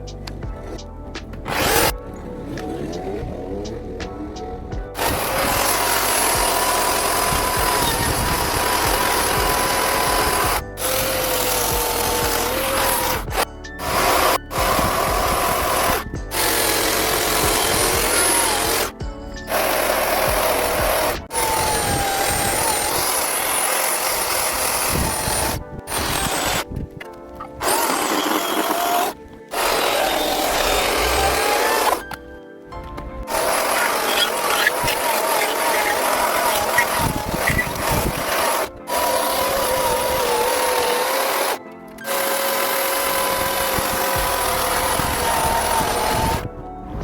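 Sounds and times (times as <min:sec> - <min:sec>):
chainsaw carving wood: 0:01.4 - 0:04.2, 0:04.8 - 0:26.7, 0:27.4 - 0:32.2, 0:33.3 - 0:46.5.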